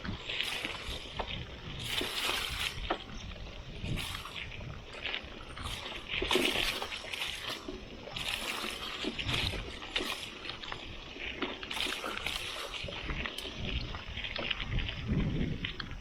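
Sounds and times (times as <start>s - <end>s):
bike tyres on rough ground: 0.0s - 16.0s.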